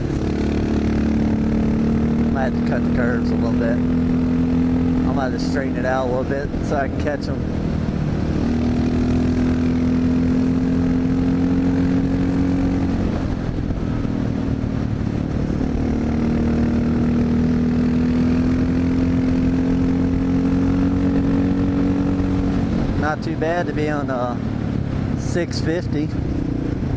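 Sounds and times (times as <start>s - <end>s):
motorcycle engine revving under load: 0.0s - 26.9s.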